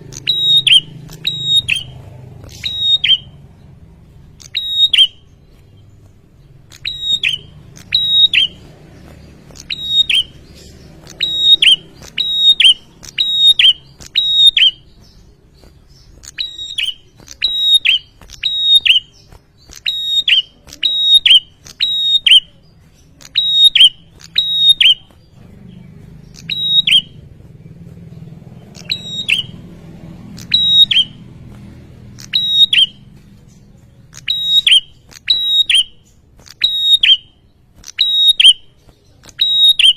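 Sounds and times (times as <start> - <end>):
bird chirping sharply: 0.0 - 39.9.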